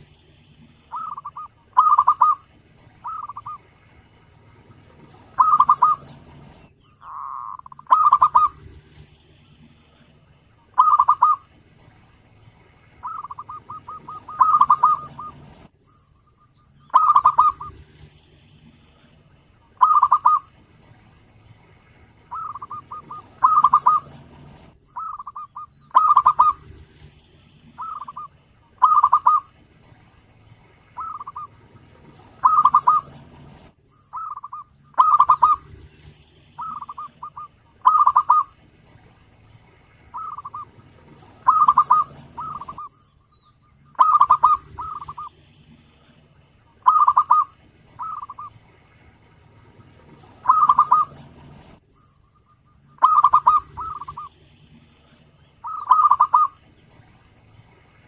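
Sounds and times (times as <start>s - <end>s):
dove cooing: 0.0s - 9.1s, 9.8s - 12.0s, 13.0s - 15.7s, 16.3s - 21.0s, 21.7s - 30.0s, 30.7s - 39.1s, 40.0s - 43.1s, 43.8s - 48.7s, 49.4s - 51.8s, 52.4s - 57.0s.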